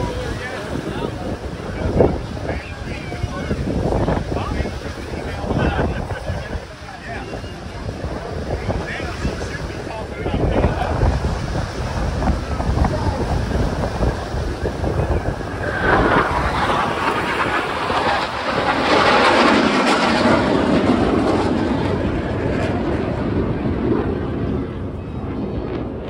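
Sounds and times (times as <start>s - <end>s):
jet passing: 0.0s - 26.0s
wind buffeting microphone: 0.0s - 26.0s.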